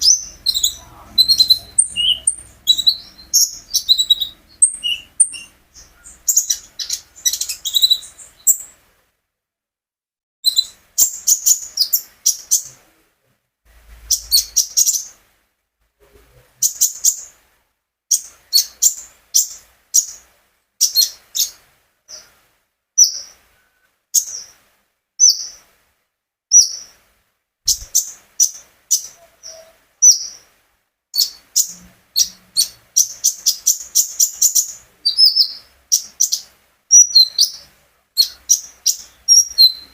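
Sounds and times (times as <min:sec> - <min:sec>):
songbird chirping: 0:00.0 - 0:09.0, 0:10.4 - 0:13.1, 0:13.9 - 0:15.3, 0:16.0 - 0:17.4, 0:18.1 - 0:25.8, 0:26.5 - 0:27.1, 0:27.7 - 0:39.9.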